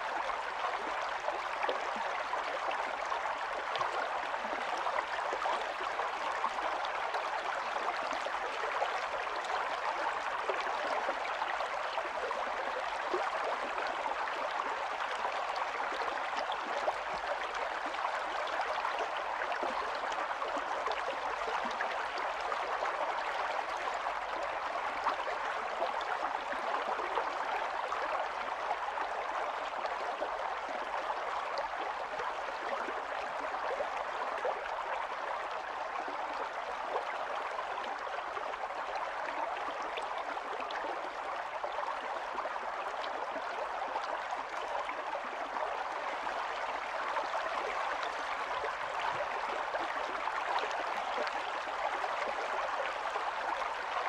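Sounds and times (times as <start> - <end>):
faint water splashes and gurgles: 0.0 - 54.0.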